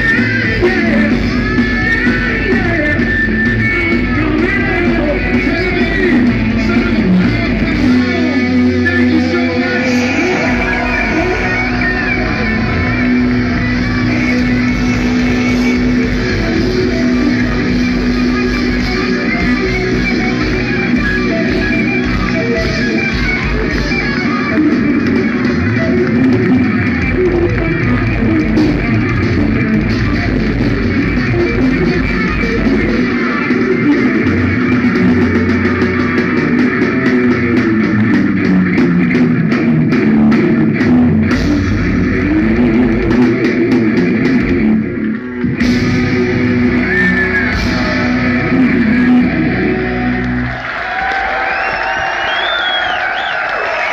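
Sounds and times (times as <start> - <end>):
metal band playing live: 0.0 - 53.9.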